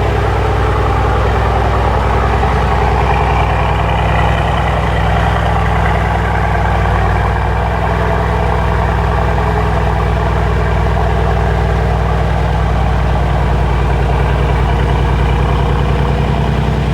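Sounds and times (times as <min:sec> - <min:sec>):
sports car engine idling: 0:00.0 - 0:16.9.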